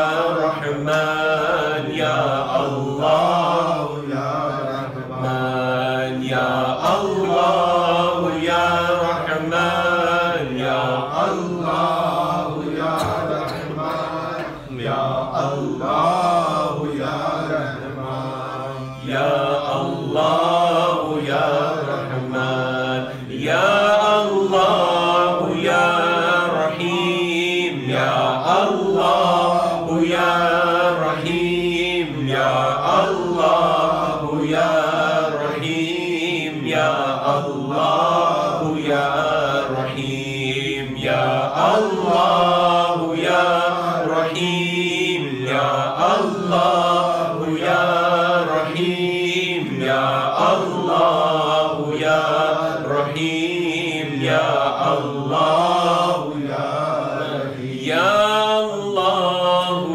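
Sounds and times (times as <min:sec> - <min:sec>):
man chanting into a microphone: 0:00.0 - 0:59.9.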